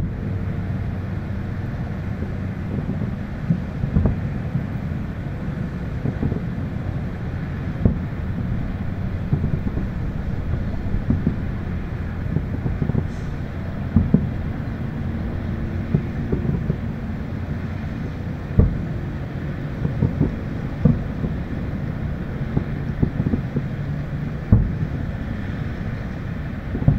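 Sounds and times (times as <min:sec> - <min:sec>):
low city rumble: 0:00.0 - 0:26.9
wind on microphone: 0:00.0 - 0:26.9
distant fireworks thumps: 0:02.1 - 0:04.8, 0:06.0 - 0:06.7, 0:07.6 - 0:26.9.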